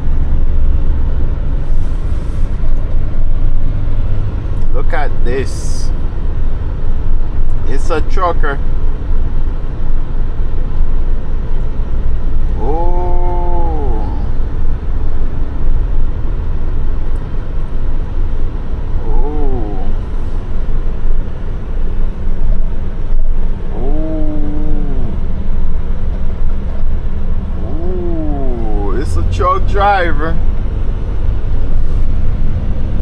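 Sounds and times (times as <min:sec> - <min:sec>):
truck engine and road rumble: 0:00.0 - 0:33.0.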